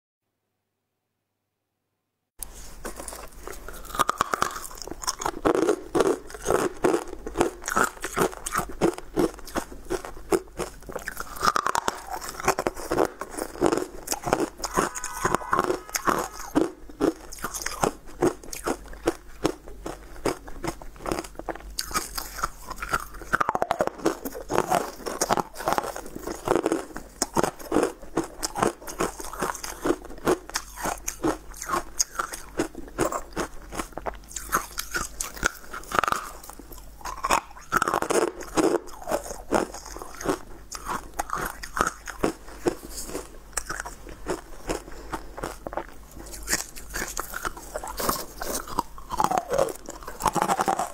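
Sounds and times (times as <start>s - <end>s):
ice being chewed crunching: 2.4s - 50.9s.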